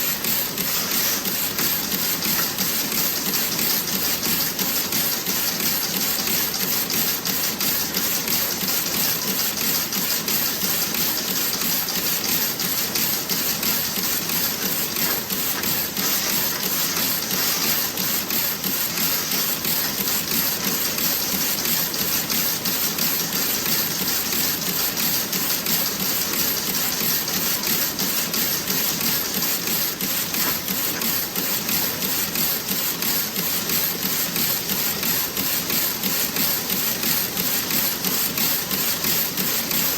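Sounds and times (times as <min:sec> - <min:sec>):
knitting machine clatter: 0:00.0 - 0:39.9.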